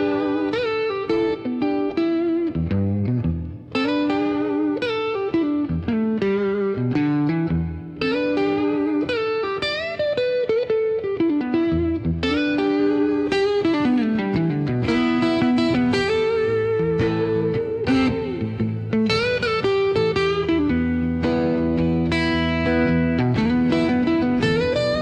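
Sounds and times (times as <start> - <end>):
plucked string melody: 0.0 - 25.0.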